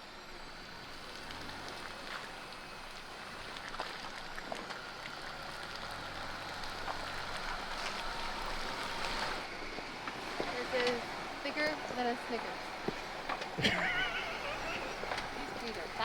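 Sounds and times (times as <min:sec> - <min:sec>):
engine and drivetrain hum: 0:00.0 - 0:16.0
tyres on dirt and stones: 0:00.3 - 0:16.0.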